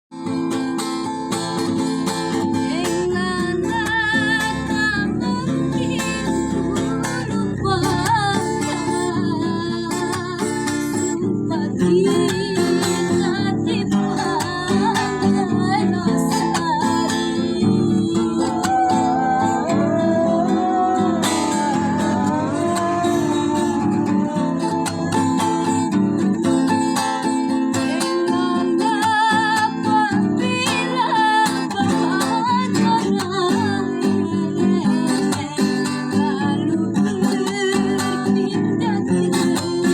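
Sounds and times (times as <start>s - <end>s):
plucked string instrument: 0.2s - 39.9s
woman singing with vibrato: 1.4s - 39.9s.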